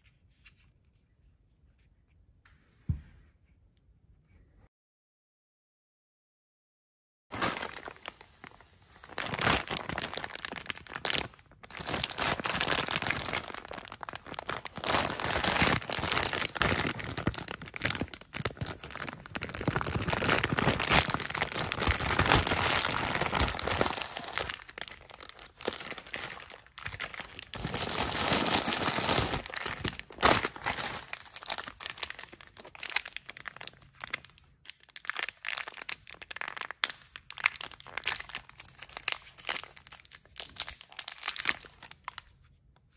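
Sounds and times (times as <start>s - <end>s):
plastic bag rustling and crackling: 7.3s - 42.2s
small wrapper crackling open: 7.3s - 42.4s.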